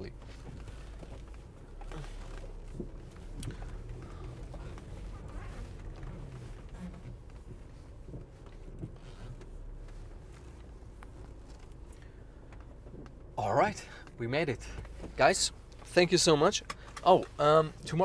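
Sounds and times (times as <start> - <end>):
car engine rumble inside cabin: 0.0 - 18.0.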